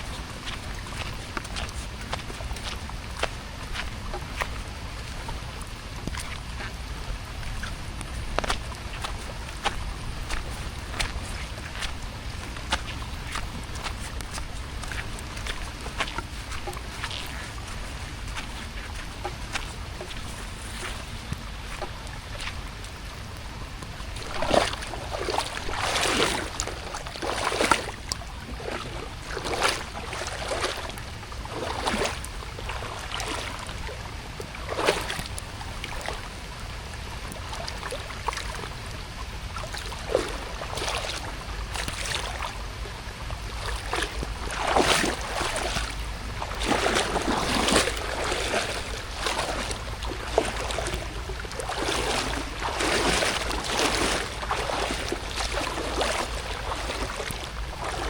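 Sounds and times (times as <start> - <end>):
footsteps splashing through water: 0.0 - 58.0.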